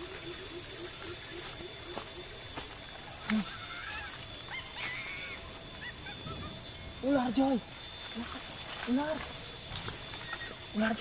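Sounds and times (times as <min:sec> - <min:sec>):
high wavering chirps: 0:00.0 - 0:11.0.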